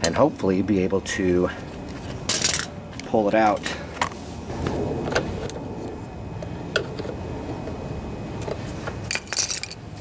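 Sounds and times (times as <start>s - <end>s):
steady low background noise: 0.0s - 10.0s.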